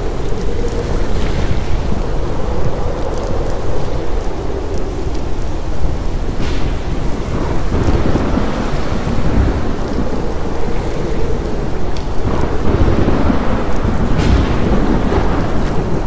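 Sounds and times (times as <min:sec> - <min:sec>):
low rumble of thunder: 0:00.0 - 0:16.0
rain falling: 0:00.0 - 0:16.0.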